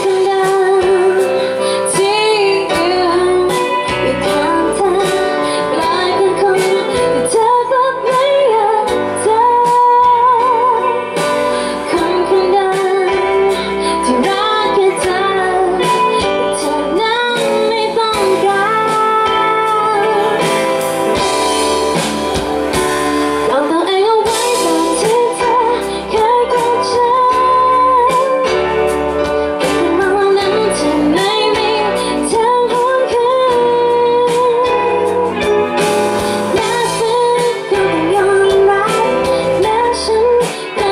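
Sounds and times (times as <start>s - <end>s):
guitar accompaniment: 0.0s - 40.9s
woman singing pop ballad: 0.0s - 40.9s.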